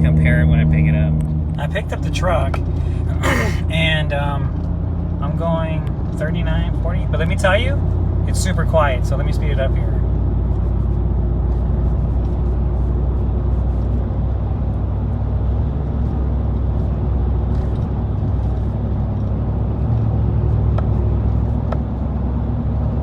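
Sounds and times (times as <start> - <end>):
road and drivetrain hum in cab: 0.0 - 23.0.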